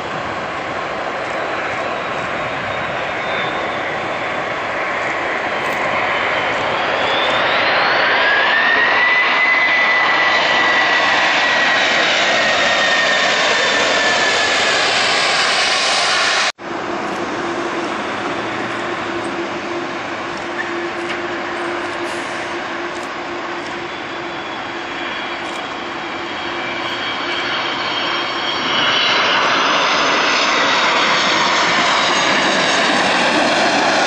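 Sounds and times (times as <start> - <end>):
jet engine roar with fan whine: 0.0 - 34.0
taxiing jet engines humming: 0.0 - 34.0.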